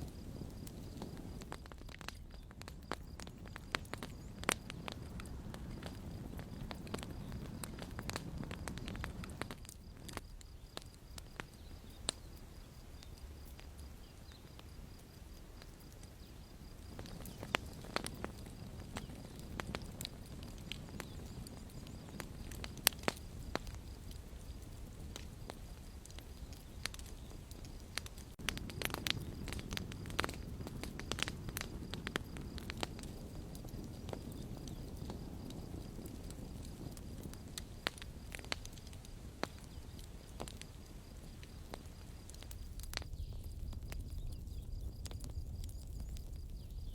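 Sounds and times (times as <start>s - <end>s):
campfire crackling: 0.0s - 46.9s
low rumble of flame: 0.0s - 46.9s.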